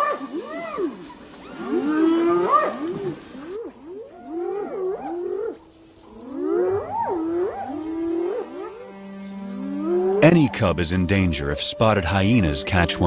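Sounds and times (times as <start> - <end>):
animals wailing calls: 0.0 - 13.0.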